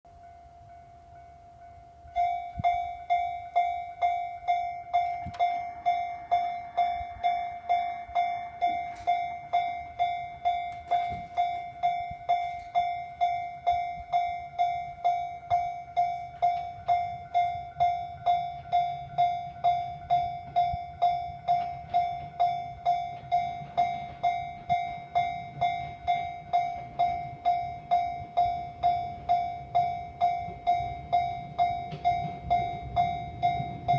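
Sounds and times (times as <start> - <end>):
level crossing warning bell: 0.1 - 33.9.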